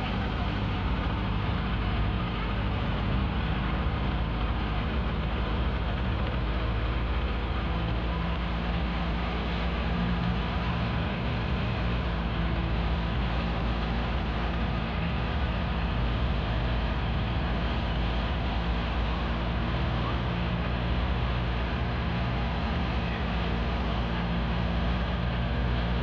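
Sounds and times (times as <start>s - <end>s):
constant low hum: 0.0s - 26.0s
vehicle engine drone: 0.0s - 26.0s
wind and road rush: 0.0s - 26.0s.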